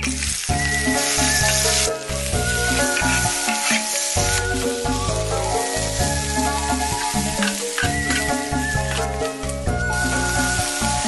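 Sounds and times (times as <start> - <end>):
background music: 0.0 - 11.0
food sizzling in hot oil: 0.0 - 11.0.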